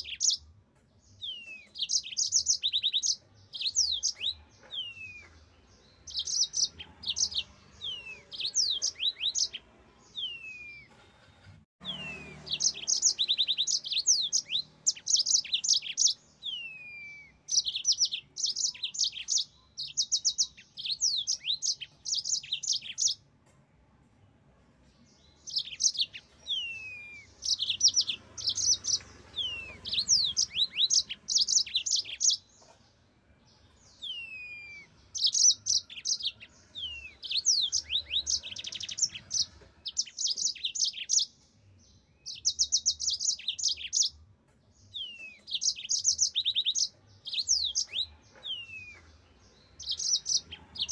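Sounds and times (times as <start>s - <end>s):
canary singing: 0.0s - 11.1s, 11.8s - 23.3s, 24.9s - 50.9s.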